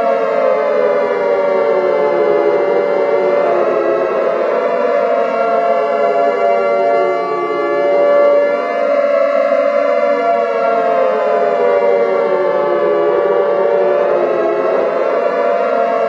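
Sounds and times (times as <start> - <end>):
civil defense siren wailing: 0.0 - 16.0
steady held siren tone: 0.0 - 16.0.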